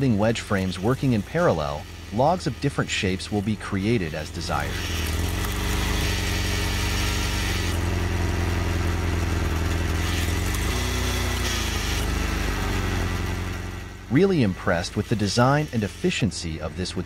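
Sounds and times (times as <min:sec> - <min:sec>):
log splitter engine drone: 0:00.0 - 0:17.0.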